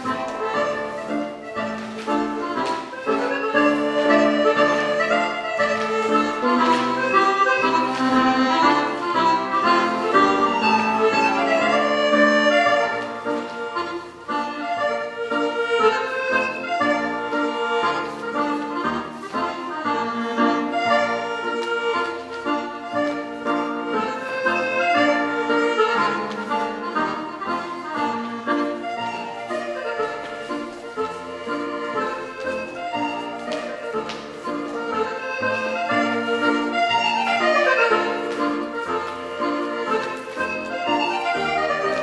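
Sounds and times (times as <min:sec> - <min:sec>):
accordion dance music: 0:00.0 - 0:42.0
piano accompaniment: 0:00.0 - 0:42.0.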